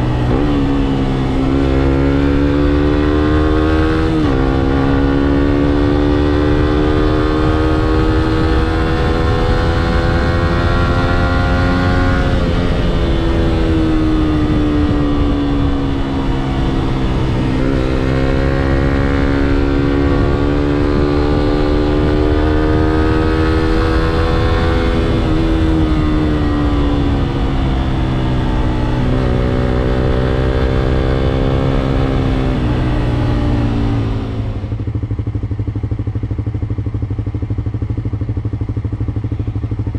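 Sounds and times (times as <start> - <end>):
heavy wind rush: 0.0 - 35.2
motorcycle engine revving: 0.0 - 39.9.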